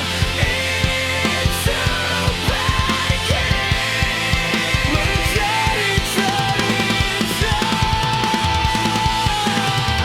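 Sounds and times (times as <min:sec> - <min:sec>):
fast drum hits: 0:00.0 - 0:10.0
rock band instrumental: 0:00.0 - 0:10.0.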